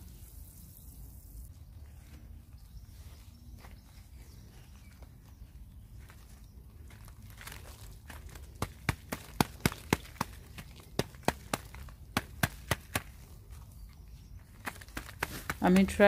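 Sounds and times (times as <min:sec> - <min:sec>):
clicks and crackles in wet soil: 0:00.0 - 0:16.0.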